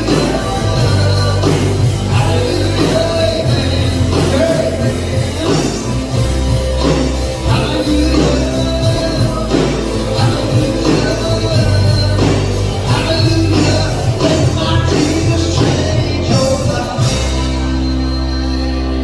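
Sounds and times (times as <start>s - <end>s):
live band playing gospel rock: 0.0s - 19.0s
low bass line: 0.0s - 19.0s.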